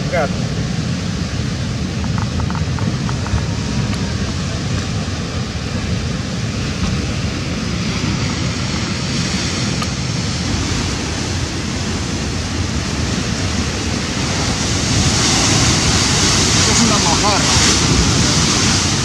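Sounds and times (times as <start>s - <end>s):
sea surf washing against rocks: 0.0s - 19.0s
wind on microphone: 0.0s - 19.0s.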